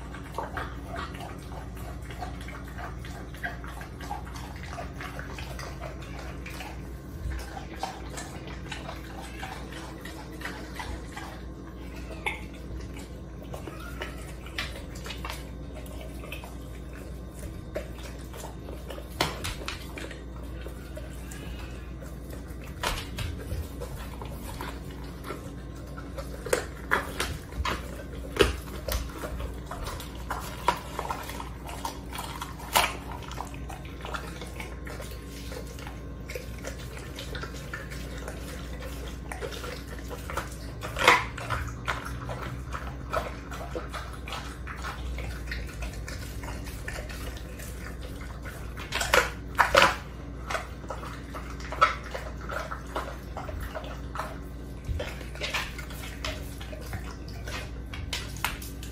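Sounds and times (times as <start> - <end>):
dog crunching bones: 0.0 - 58.9
wet chewing: 0.0 - 58.9.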